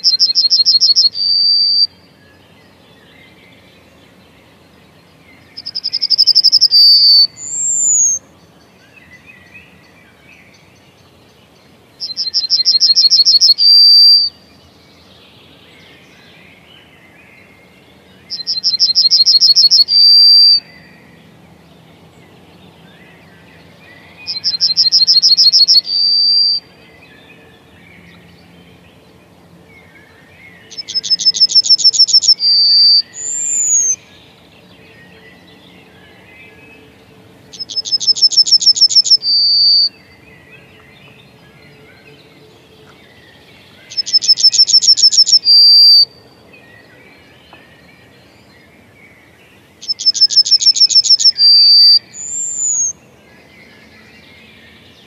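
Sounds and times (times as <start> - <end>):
faint bird chirps: 0.0 - 21.9, 22.8 - 29.0, 29.8 - 55.0
bird singing song: 0.0 - 55.0.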